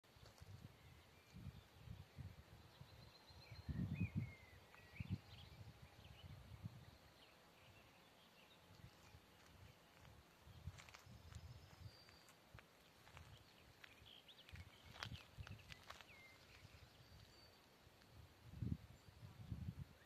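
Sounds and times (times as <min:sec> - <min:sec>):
faint bird chirps: 0:00.2 - 0:17.7
wind buffeting microphone: 0:00.4 - 0:07.0, 0:08.7 - 0:17.4, 0:18.1 - 0:20.0.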